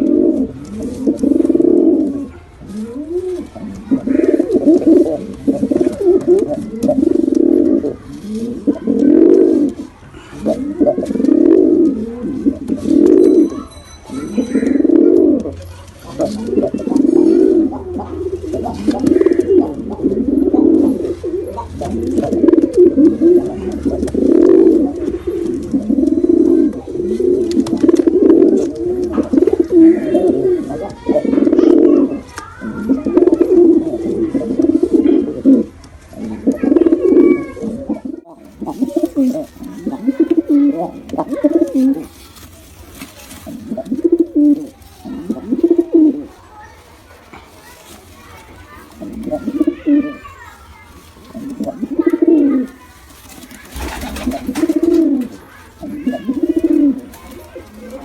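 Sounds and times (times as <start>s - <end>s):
pigeons cooing: 0.0s - 46.4s, 47.6s - 58.0s.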